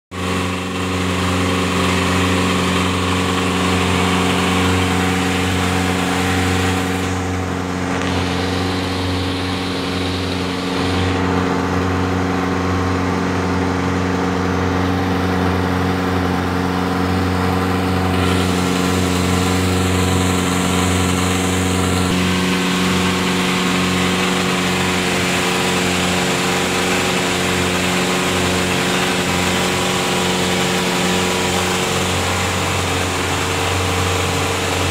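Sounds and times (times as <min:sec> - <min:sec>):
boat engine running: 0:00.1 - 0:34.9
water rushing along hull: 0:00.1 - 0:34.9.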